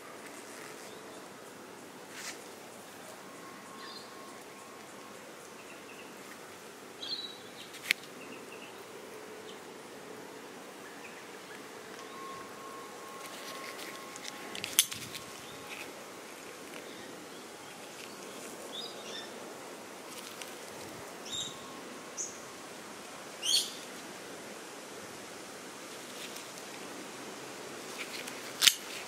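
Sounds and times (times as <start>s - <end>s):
outdoor background noise: 0.0s - 29.0s.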